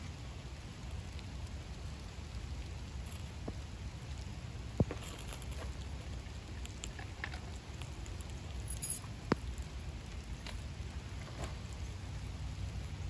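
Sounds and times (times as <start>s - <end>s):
light rain pattering: 0.0s - 13.0s
tinder crackling as it catches fire: 0.0s - 13.0s.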